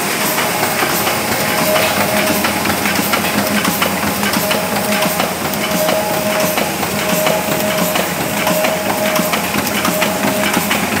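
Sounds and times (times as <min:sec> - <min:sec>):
printing press clatter: 0:00.0 - 0:11.0
short machine whine: 0:00.0 - 0:11.0.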